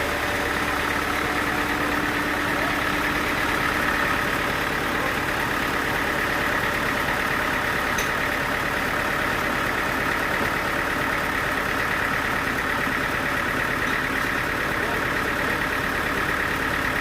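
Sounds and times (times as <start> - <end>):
sawmill engine drone: 0.0 - 17.0.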